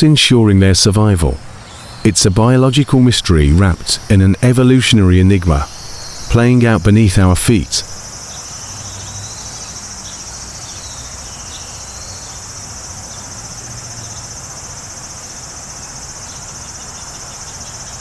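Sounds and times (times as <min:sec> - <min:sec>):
cicada chorus drone: 0:00.5 - 0:18.0.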